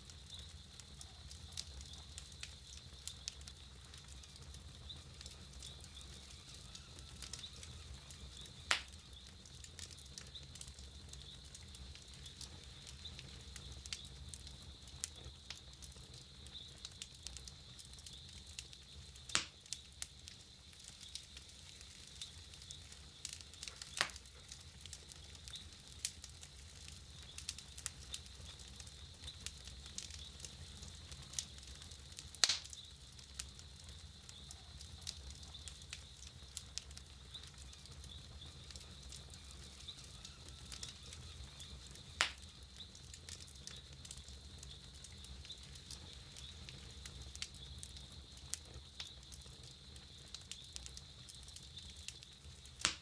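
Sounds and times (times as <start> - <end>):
burning wood popping: 0.0 - 53.0
campfire crackling: 0.0 - 53.0.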